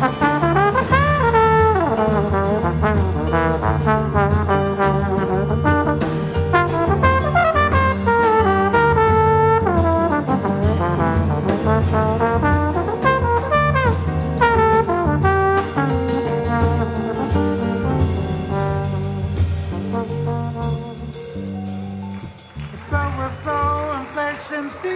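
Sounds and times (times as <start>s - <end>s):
jazz trombone solo: 0.0s - 22.4s
electric bass guitar: 0.0s - 22.7s
drum kit: 0.0s - 24.9s
piano: 0.0s - 24.9s.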